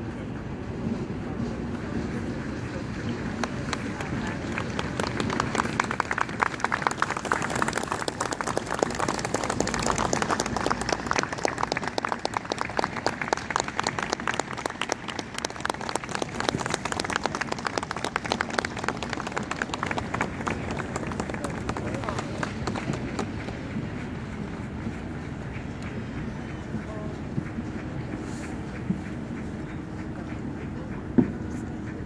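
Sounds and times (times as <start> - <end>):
crowd applauding: 2.3 - 28.0.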